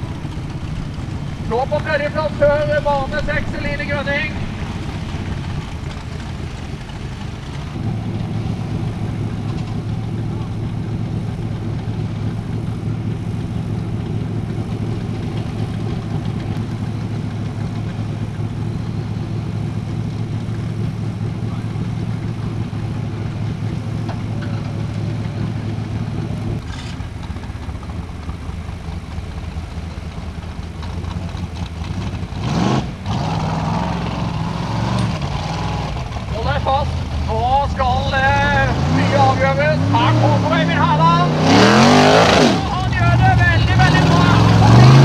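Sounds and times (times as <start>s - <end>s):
buggy engine revving: 0.0s - 45.0s
heavy engine idling: 0.0s - 45.0s.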